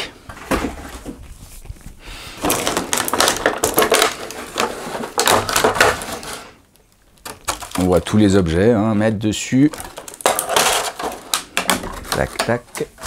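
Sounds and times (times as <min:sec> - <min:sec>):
packaging rustling and crinkling: 0:00.3 - 0:08.1, 0:09.5 - 0:13.0.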